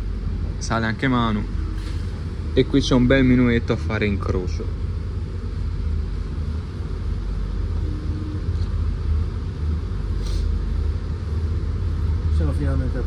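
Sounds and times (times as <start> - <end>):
train engine low rumble: 0.0 - 13.0.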